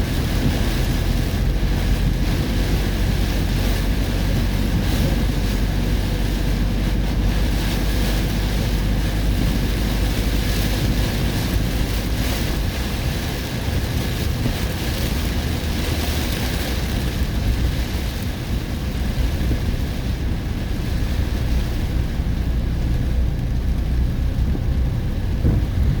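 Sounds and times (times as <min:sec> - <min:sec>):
rain and wind on vehicle: 0:00.0 - 0:26.0
vehicle low rumble: 0:00.0 - 0:26.0.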